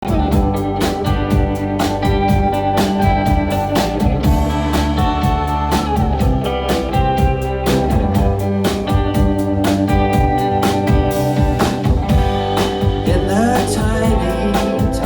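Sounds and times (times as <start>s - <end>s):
bass guitar: 0.0s - 15.0s
drums keeping a beat: 0.0s - 15.0s
electric guitars: 0.0s - 15.0s.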